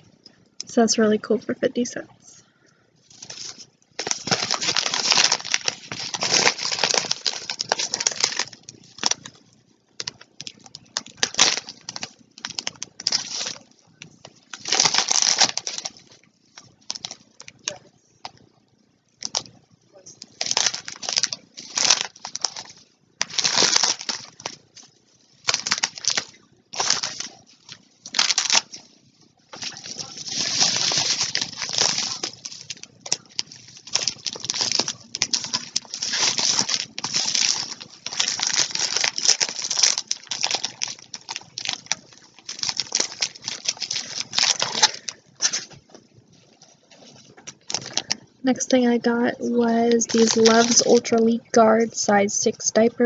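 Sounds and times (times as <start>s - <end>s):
crinkly packaging rustling: 3.0s - 51.5s.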